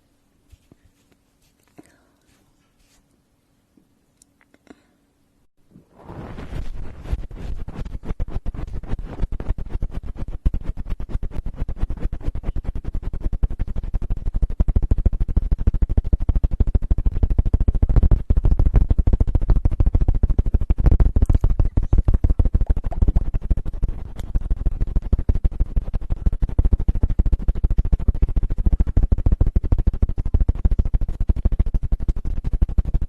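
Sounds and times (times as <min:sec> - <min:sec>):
fast chopping pulses at microphone: 0:05.8 - 0:33.0.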